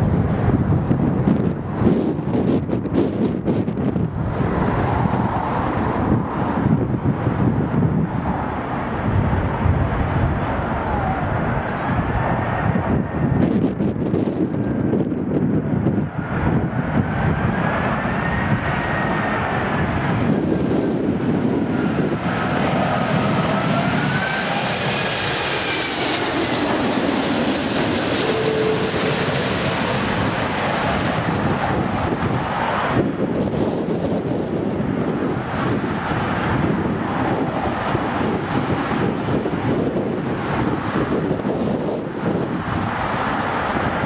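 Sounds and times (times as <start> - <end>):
jet engines whining: 0.0 - 44.0
wind buffeting microphone: 0.0 - 44.0.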